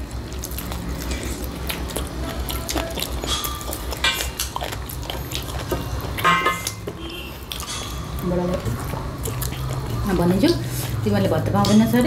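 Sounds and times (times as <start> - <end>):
wet chewing and lip smacking: 0.0 - 12.0.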